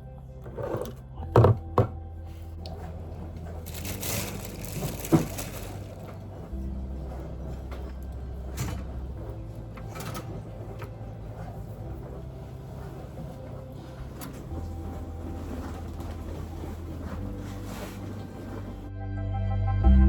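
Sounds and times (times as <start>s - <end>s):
background music low notes: 0.0s - 20.0s.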